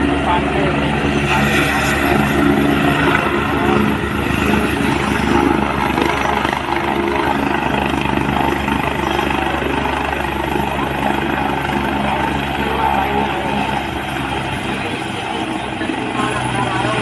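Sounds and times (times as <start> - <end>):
helicopter engine whine: 0.0 - 17.0
helicopter rotor chop: 0.0 - 17.0.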